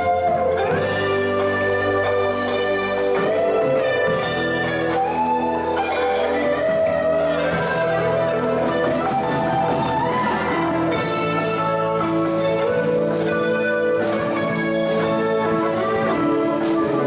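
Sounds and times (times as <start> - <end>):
jazz band playing: 0.0 - 17.0.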